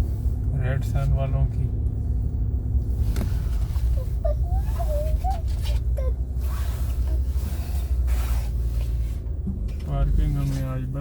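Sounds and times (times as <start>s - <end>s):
car driving slowly: 0.0s - 11.0s.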